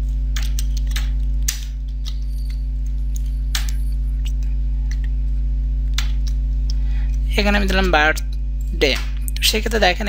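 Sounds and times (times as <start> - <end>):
low mains hum: 0.0 - 10.0.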